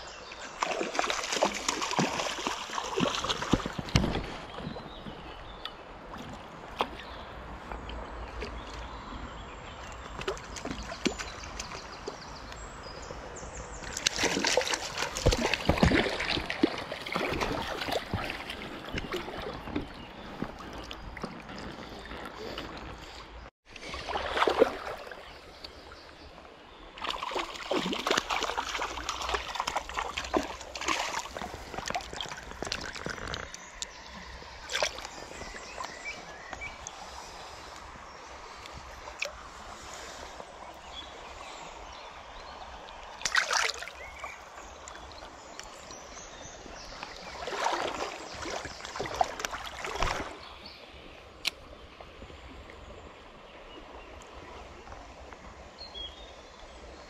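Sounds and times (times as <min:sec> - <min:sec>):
water sloshing and splashing: 0:00.0 - 0:55.8
stream flowing: 0:00.0 - 0:57.0.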